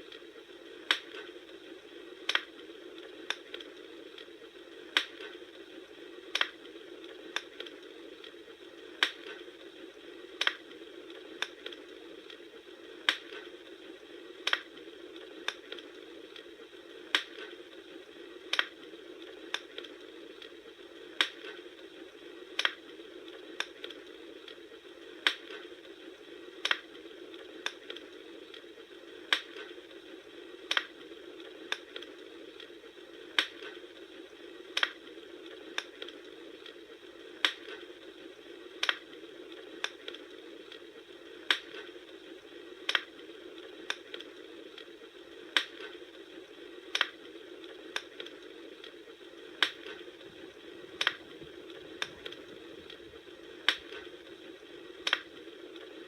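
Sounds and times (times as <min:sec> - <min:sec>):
low hiss of fire: 0:00.0 - 0:56.0
wood fire crackling: 0:00.0 - 0:56.0.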